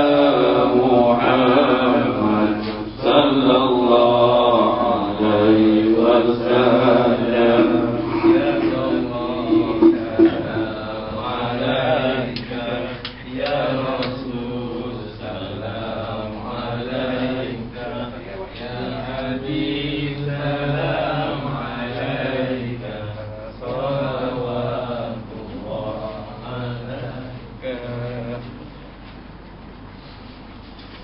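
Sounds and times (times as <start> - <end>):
men chanting over a microphone: 0.0 - 28.7.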